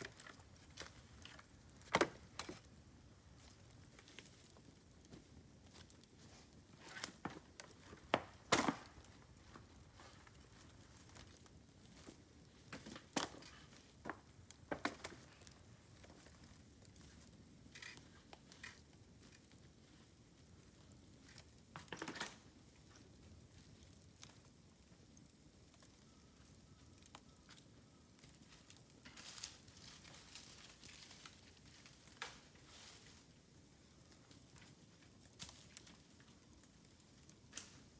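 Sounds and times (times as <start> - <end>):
bamboo fire crackling and popping: 0.0 - 37.9.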